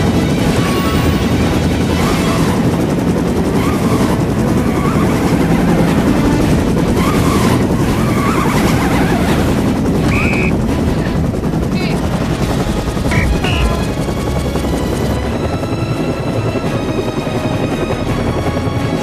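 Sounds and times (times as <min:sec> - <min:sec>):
helicopter hovering overhead: 0:00.0 - 0:19.0.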